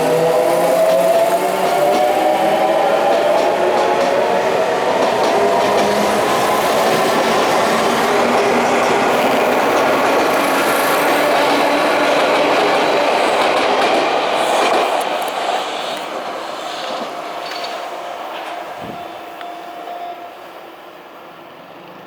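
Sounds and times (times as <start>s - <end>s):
electric train running: 0.0s - 22.0s.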